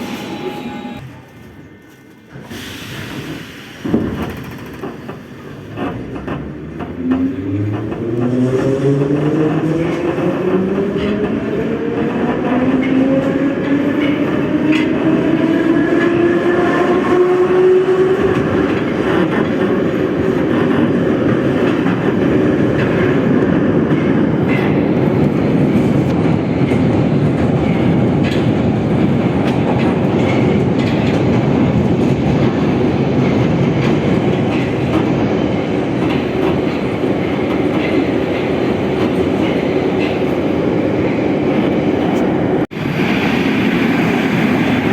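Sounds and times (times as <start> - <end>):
rail clicks: 0.0 - 44.9
train wheels rumbling on rail: 0.0 - 44.9.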